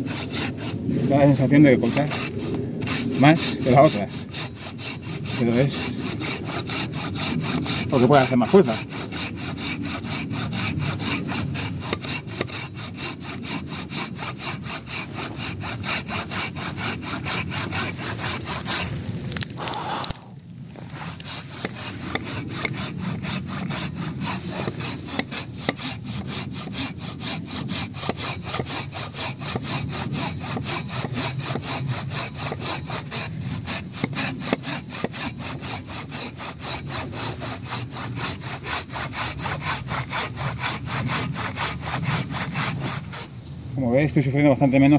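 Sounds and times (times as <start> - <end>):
hand saw cutting through log: 0.0 - 20.2, 20.8 - 43.4.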